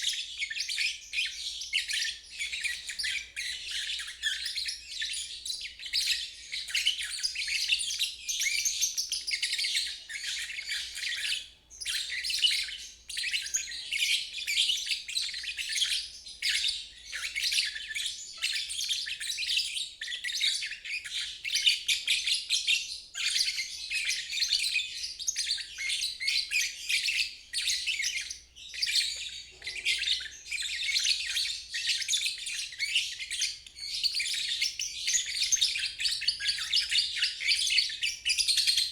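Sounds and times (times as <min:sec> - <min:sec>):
lovebird twittering chatter: 0:00.0 - 0:22.5, 0:23.2 - 0:38.9.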